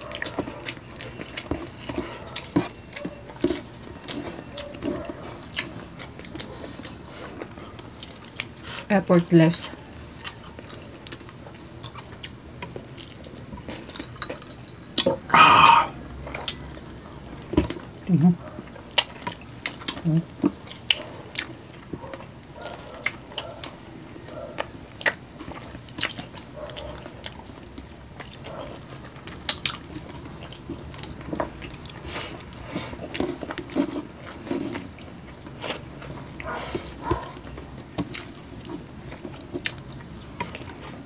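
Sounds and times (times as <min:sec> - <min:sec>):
wet chewing and biting: 0:00.0 - 0:41.0.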